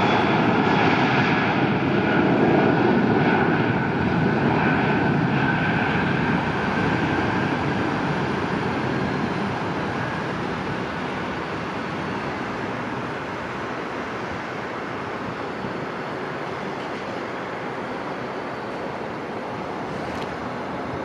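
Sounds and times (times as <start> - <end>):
distant jet engines roaring: 0.0 - 21.0.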